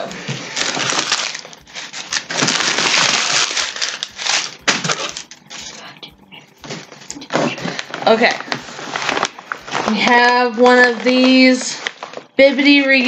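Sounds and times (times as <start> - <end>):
packing material crumpling: 0.1 - 5.7, 6.8 - 12.8.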